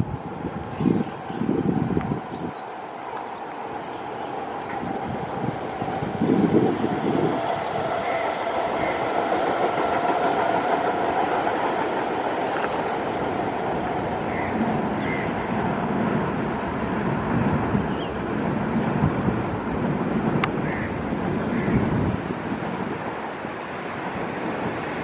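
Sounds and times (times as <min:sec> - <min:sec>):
train wheels rumbling on track: 0:00.0 - 0:25.0
train whine: 0:00.0 - 0:25.0.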